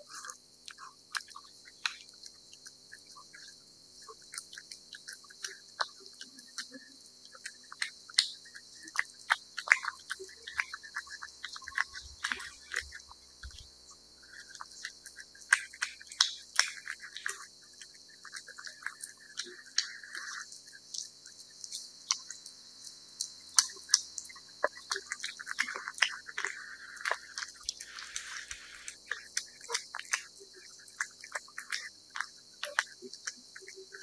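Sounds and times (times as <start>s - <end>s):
cat chewing wet food: 0.0s - 34.0s.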